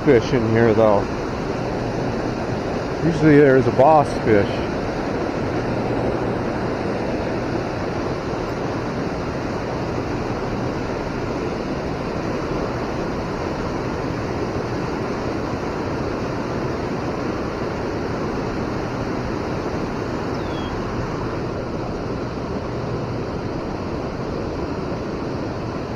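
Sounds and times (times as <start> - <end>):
river flowing over rocks: 0.0 - 25.9.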